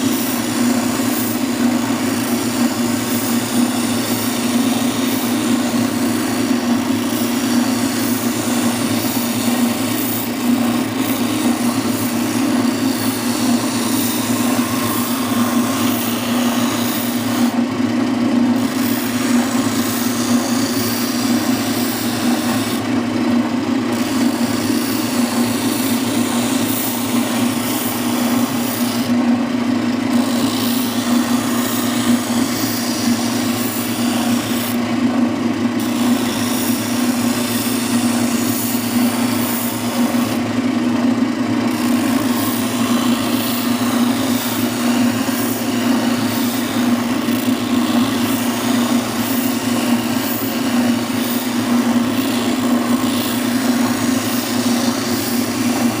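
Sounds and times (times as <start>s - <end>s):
sandpaper hissing on wood: 0.0s - 17.6s, 18.5s - 22.8s, 23.9s - 29.2s, 30.1s - 34.8s, 35.8s - 40.4s, 41.7s - 56.0s
sander motor hum: 0.0s - 56.0s.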